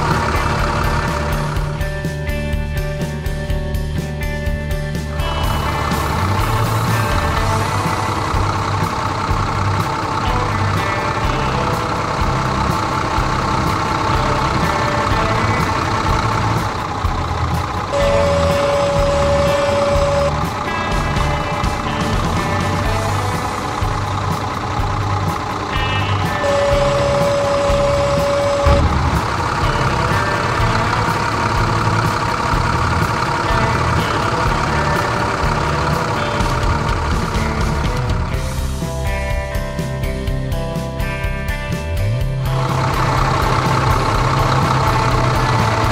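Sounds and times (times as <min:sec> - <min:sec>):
steady whine: 0:00.0 - 0:45.9
tractor engine rumbling: 0:00.0 - 0:45.9.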